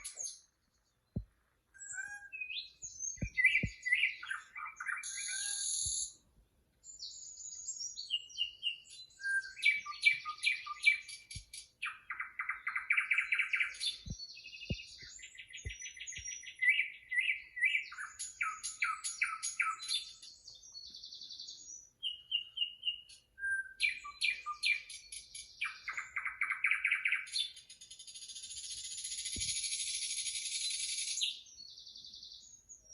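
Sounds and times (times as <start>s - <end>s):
songbirds chirping and trilling: 0.0s - 32.9s.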